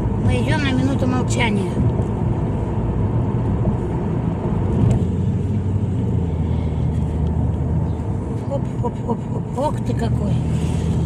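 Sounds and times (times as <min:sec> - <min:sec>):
engine and road rumble in car: 0:00.0 - 0:11.0.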